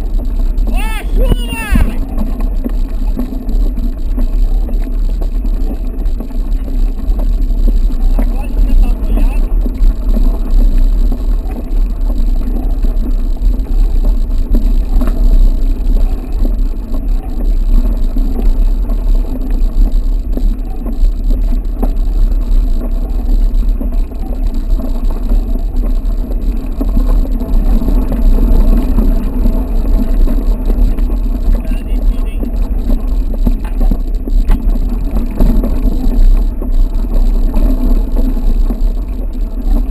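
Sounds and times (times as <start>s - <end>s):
bike tyre noise: 0.0s - 39.9s
wind buffeting microphone: 0.0s - 39.9s.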